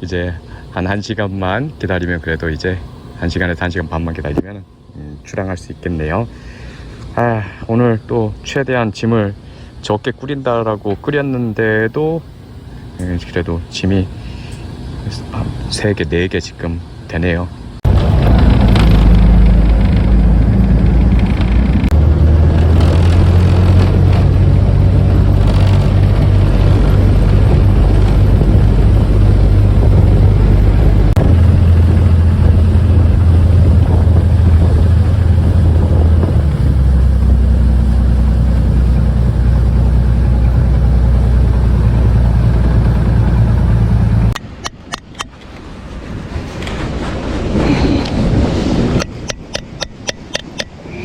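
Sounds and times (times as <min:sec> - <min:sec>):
engine droning: 0:00.0 - 0:46.9.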